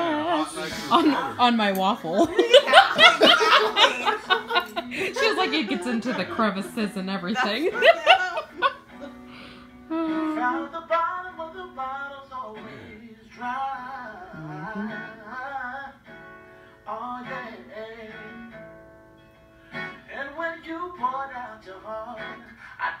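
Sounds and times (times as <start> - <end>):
man singing: 0.0 - 1.4, 2.4 - 8.7, 9.9 - 16.1, 16.8 - 18.4, 20.1 - 23.0
acoustic guitar: 0.0 - 23.0.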